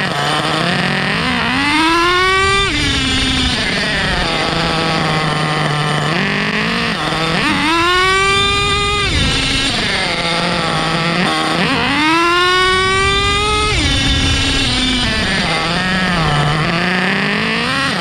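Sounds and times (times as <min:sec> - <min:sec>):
model truck engine revving: 0:00.0 - 0:18.0.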